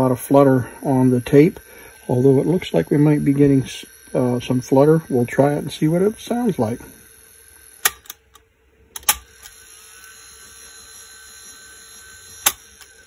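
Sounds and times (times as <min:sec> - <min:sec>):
tape recorder motor whine: 0:00.0 - 0:13.0.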